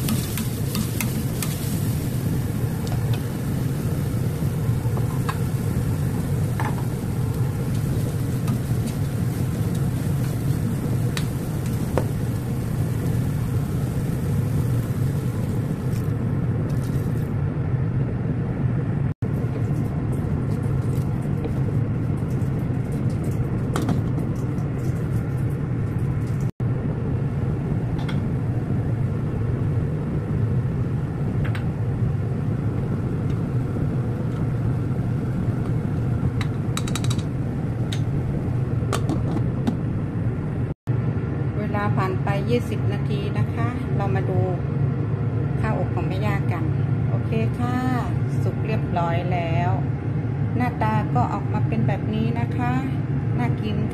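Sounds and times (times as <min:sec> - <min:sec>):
low kitchen rumble: 0:00.0 - 0:53.9.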